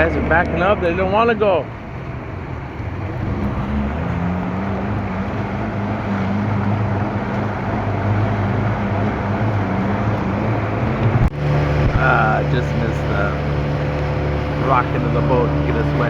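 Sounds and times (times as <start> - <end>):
boat motor running: 0.0 - 16.0
rushing water and wind: 0.0 - 16.0.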